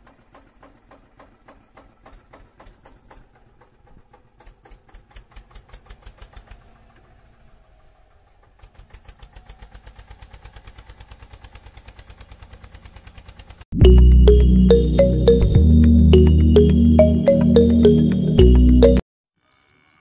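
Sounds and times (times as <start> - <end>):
tractor engine running: 0.0 - 16.8.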